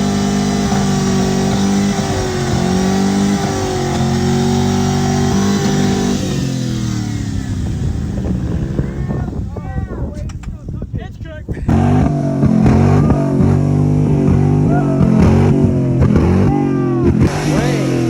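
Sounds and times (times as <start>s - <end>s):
truck engine revving high: 0.0s - 10.1s, 11.7s - 18.0s.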